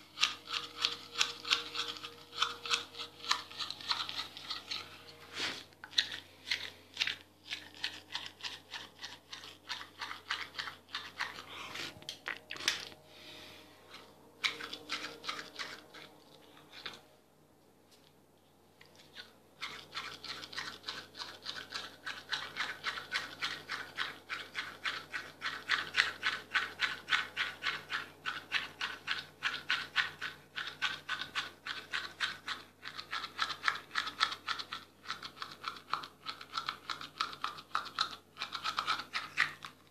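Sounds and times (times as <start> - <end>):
toothbrush scrubbing teeth: 0.0 - 13.0, 13.9 - 17.0, 18.8 - 39.9.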